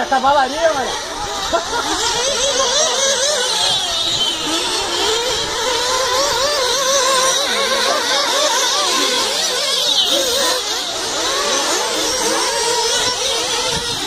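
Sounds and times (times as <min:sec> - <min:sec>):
rc car engines revving: 0:00.0 - 0:14.0.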